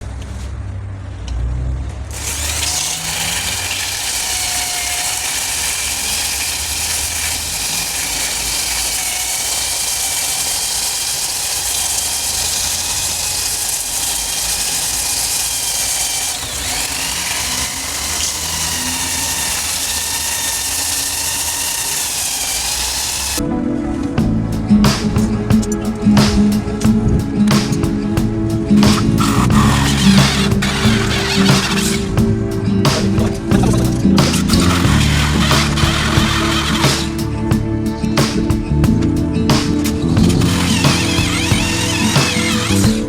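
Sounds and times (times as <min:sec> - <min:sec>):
electric power tool whining: 0:02.1 - 0:23.4, 0:28.7 - 0:43.0.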